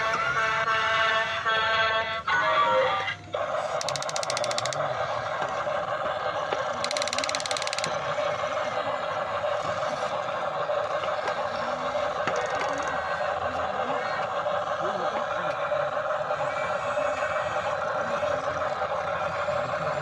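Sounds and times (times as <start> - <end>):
toy excavator motors whirring: 0.0 - 20.0
rapid fine ticking: 3.4 - 20.0.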